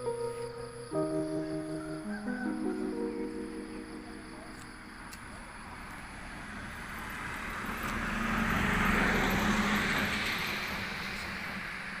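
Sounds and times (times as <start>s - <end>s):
road vehicle passing: 1.0s - 12.0s.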